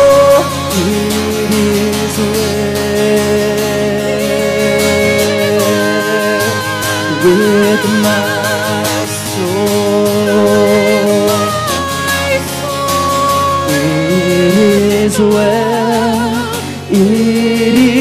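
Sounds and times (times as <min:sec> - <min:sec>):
acoustic guitar: 0:00.0 - 0:18.0
person singing with vibrato: 0:00.0 - 0:18.0.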